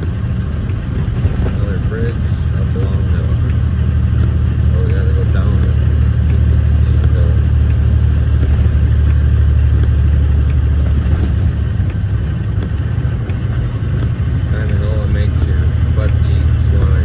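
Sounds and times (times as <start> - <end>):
truck diesel engine drone: 0.0 - 17.0.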